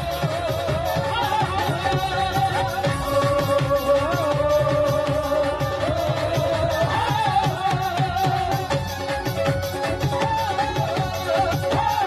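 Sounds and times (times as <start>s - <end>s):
fast drum beat: 0.0s - 12.0s.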